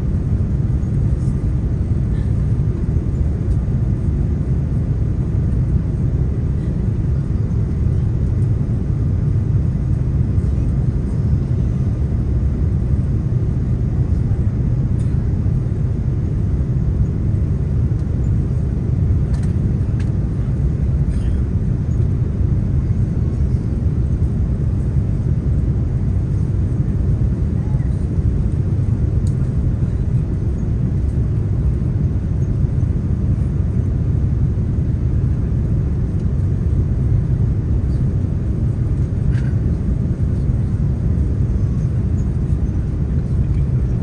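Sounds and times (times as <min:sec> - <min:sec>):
airplane cabin rumble: 0:00.0 - 0:44.0.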